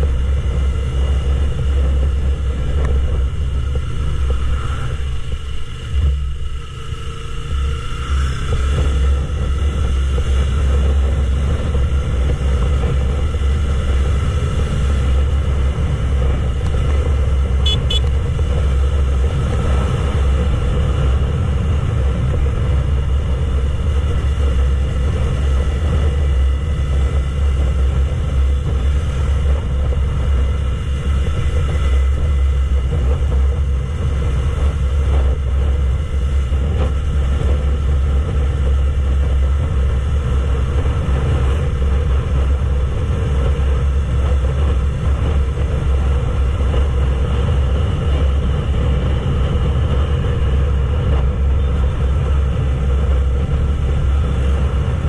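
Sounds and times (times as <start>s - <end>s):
motorcycle engine running: 0.0s - 55.0s
wind rumbling on microphone: 0.0s - 55.0s.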